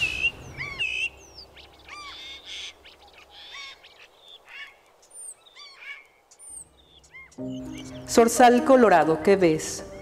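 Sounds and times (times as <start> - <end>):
birds chirping and whistling: 0.0 - 8.5, 9.8 - 10.0.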